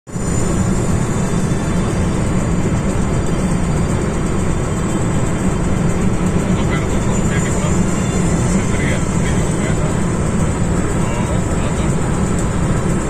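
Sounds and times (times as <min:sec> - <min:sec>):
car interior road rumble: 0:00.2 - 0:13.0.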